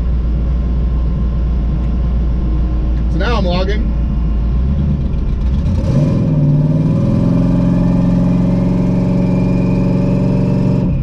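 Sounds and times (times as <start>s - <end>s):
car engine drone: 0.0s - 11.0s
high engine whine: 0.0s - 11.0s.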